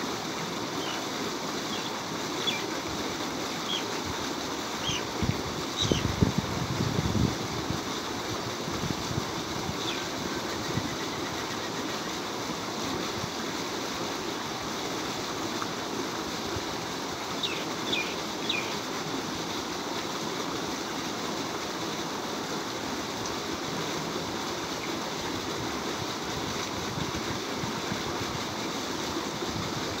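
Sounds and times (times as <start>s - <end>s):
water gushing into a tank: 0.0s - 30.0s.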